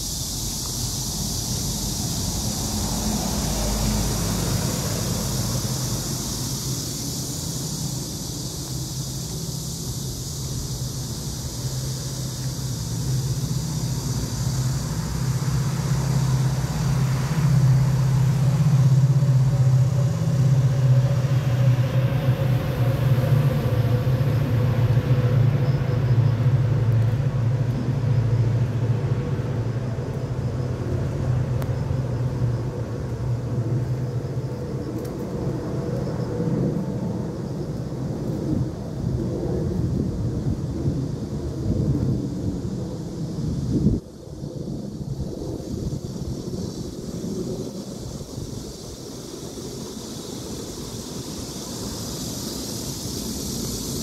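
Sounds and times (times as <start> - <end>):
wind buffeting microphone: 9.0 - 54.0.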